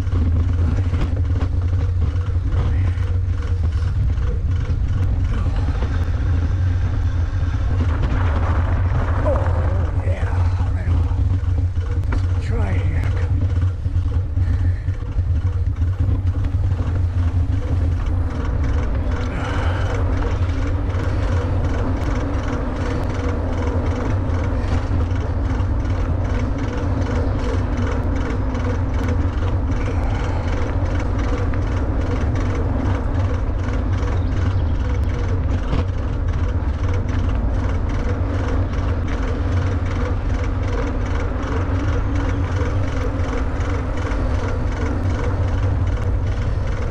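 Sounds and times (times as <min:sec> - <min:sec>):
electric motor hum: 0:00.0 - 0:46.9
light rattling ticks: 0:00.0 - 0:46.9
tyre rumble: 0:00.0 - 0:46.9
wind on microphone: 0:00.0 - 0:46.9.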